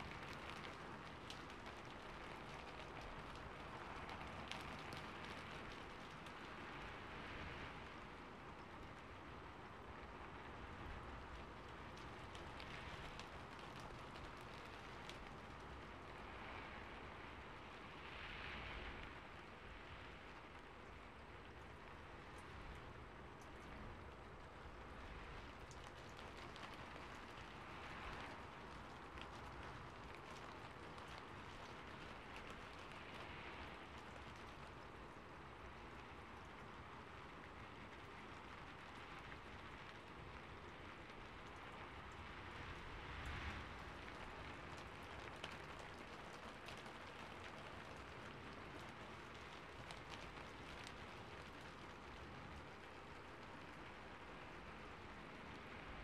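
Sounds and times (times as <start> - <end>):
faint rain-like patter: 0.0 - 56.0.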